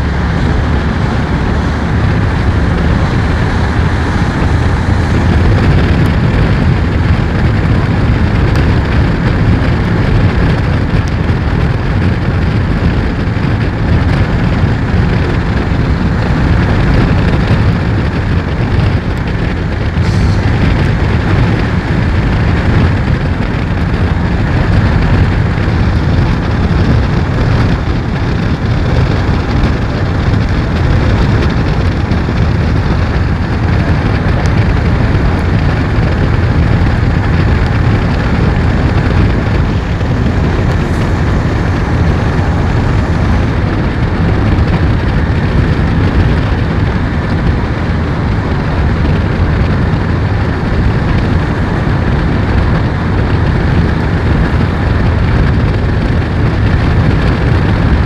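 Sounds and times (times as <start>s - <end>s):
low rumble: 0.0s - 58.0s
steady rain: 0.0s - 58.0s.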